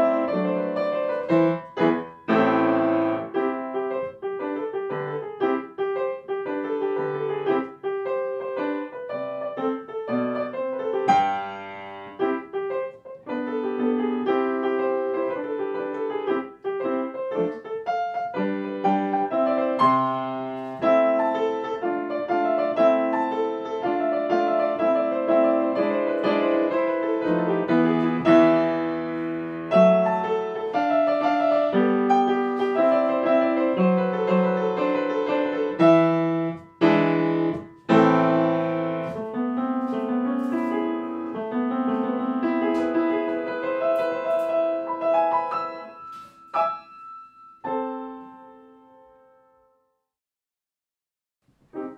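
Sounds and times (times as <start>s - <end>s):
solo piano music: 0.0s - 50.0s, 51.5s - 51.9s.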